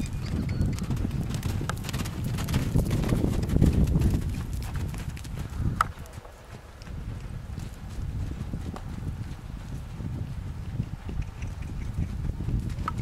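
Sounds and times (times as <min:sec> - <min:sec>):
horse hoofbeats on dirt: 0:00.0 - 0:13.0.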